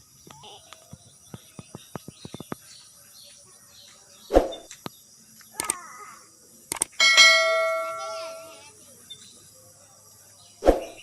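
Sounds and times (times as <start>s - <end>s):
bird chirps: 0.0s - 6.0s, 6.7s - 11.0s.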